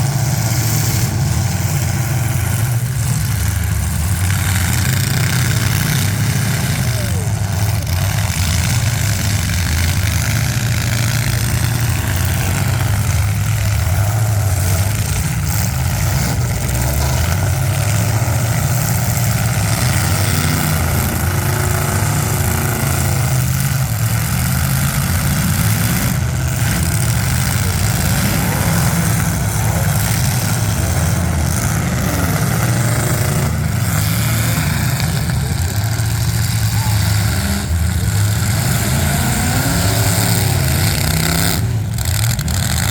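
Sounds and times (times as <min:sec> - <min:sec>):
car engines running loud: 0:00.0 - 0:42.9.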